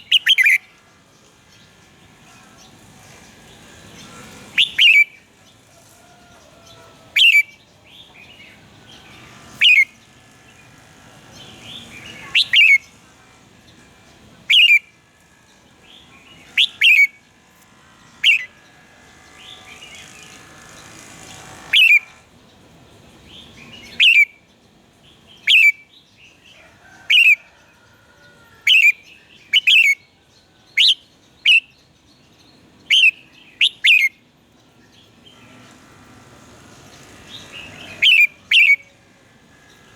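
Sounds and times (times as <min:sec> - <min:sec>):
bulbul singing sharp phrases: 0:00.0 - 0:26.4, 0:28.7 - 0:39.9.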